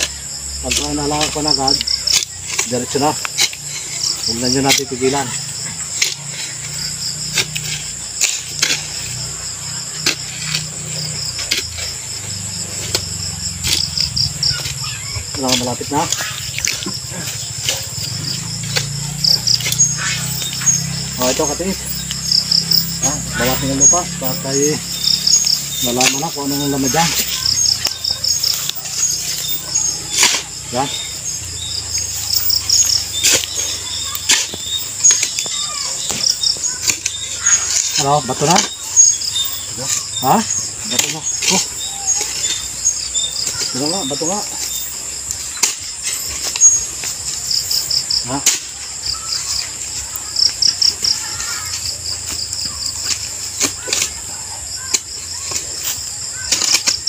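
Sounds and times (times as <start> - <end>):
crickets chirring: 0.0 - 57.0
digging bar striking soil: 0.0 - 57.0.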